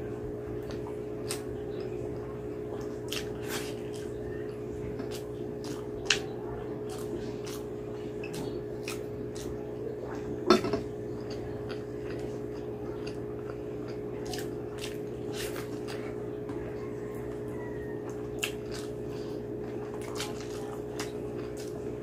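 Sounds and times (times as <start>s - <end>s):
low steady hum: 0.0s - 22.0s
chewing with wet mouth clicks: 0.6s - 10.2s, 11.1s - 22.0s.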